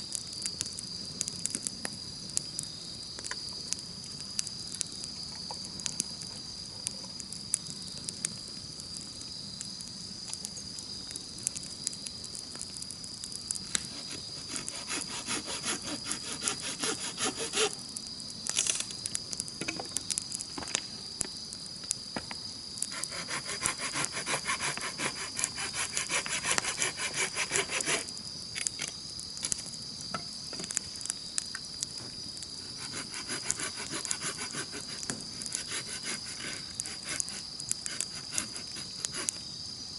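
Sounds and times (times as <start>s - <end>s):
campfire crackling and popping: 0.0s - 39.8s
high-pitched insect trill: 0.0s - 39.9s.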